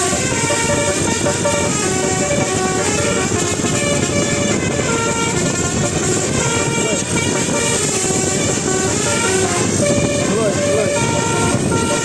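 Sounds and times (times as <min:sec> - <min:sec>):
bus horn melody: 0:00.0 - 0:12.0
outdoor street noise: 0:00.0 - 0:12.0.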